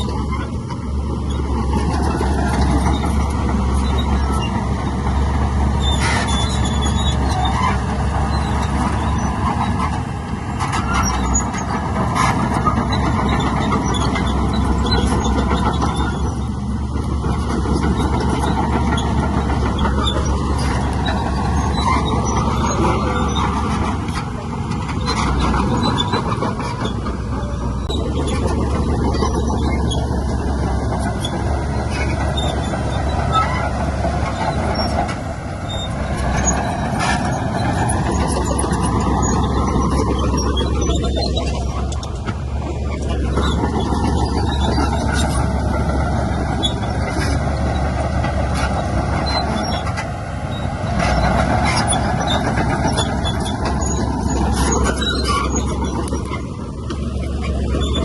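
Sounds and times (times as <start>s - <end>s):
heavy diesel machinery running: 0.0s - 58.0s
metal squeaks and clanks: 0.0s - 58.0s.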